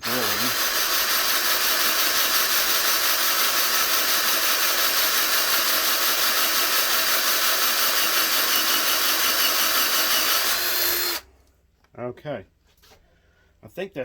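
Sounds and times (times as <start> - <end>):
electric drill boring into metal: 0.0 - 11.3.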